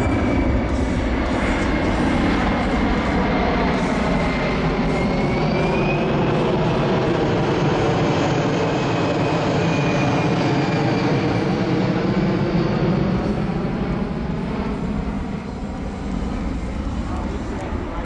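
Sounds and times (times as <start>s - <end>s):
high turbine whine: 0.0s - 18.0s
jet engine rumble: 0.0s - 18.0s.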